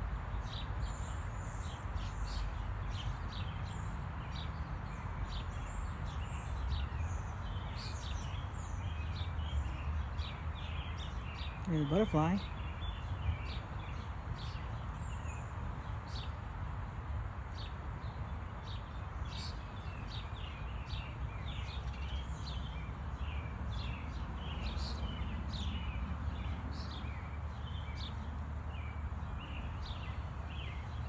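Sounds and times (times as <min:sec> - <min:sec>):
small songbirds chirping: 0:00.0 - 0:31.0.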